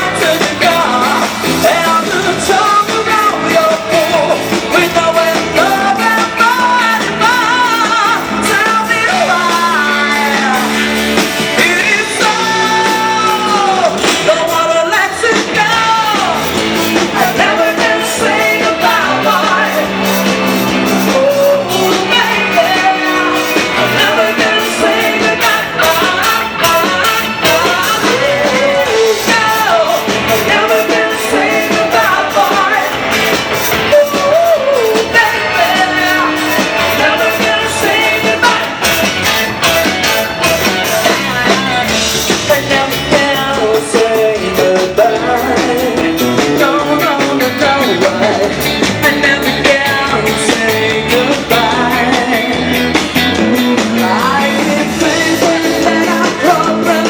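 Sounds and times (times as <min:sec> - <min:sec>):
lead vocalist singing: 0:00.0 - 0:57.0
live band playing pop-rock: 0:00.0 - 0:57.0.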